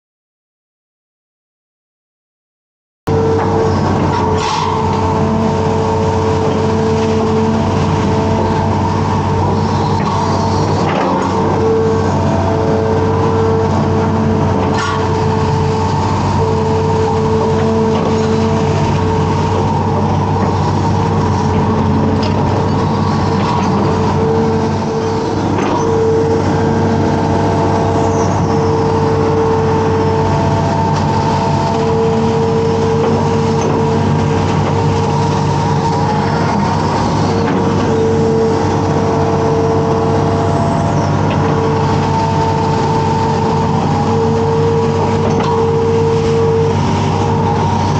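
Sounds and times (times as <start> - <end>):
constant whine: 3.1 - 47.9
diesel engine running: 3.1 - 47.9.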